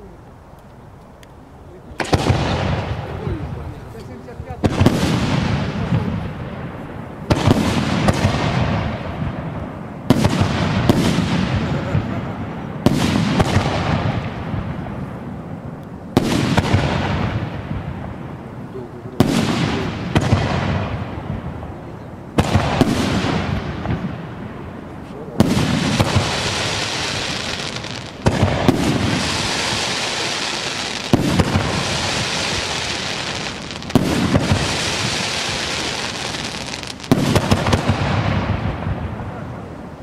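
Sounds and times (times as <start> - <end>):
fireworks bangs with rumble: 2.0 - 39.6.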